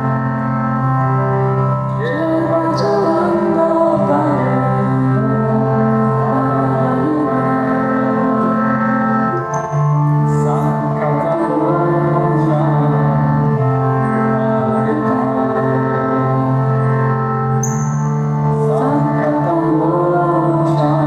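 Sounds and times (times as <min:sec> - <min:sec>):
harmonium chords: 0:00.0 - 0:21.0
devotional chanting: 0:02.0 - 0:21.0.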